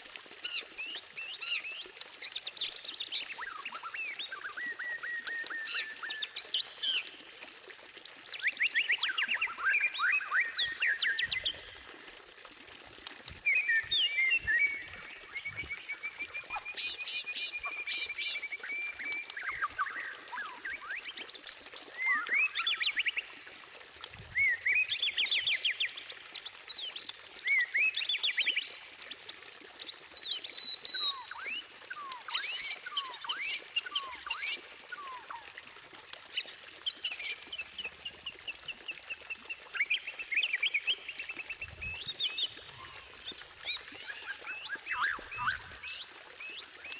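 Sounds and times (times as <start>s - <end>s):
songbird singing whistles and trills: 0.4s - 7.0s, 8.0s - 11.8s, 13.4s - 21.2s, 21.9s - 23.3s, 24.3s - 26.0s, 26.7s - 28.8s, 30.2s - 35.4s, 36.3s - 46.9s.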